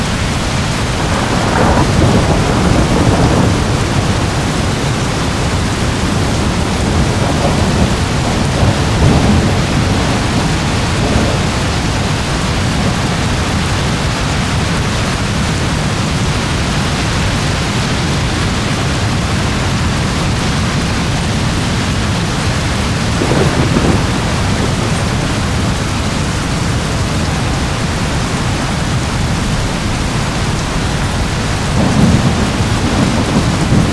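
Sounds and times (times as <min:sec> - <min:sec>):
heavy rain: 0:00.0 - 0:33.9
thunder rumbling: 0:00.0 - 0:33.9.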